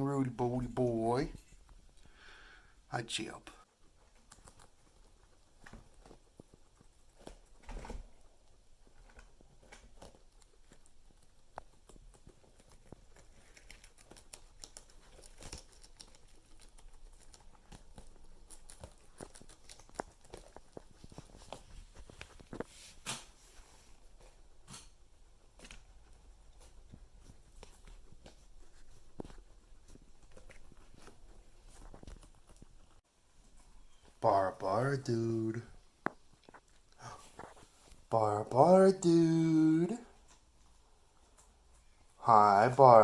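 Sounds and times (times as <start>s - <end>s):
guinea pigs rustling and clicking: 0.0s - 2.9s, 3.6s - 34.2s, 35.8s - 38.1s, 40.0s - 43.0s.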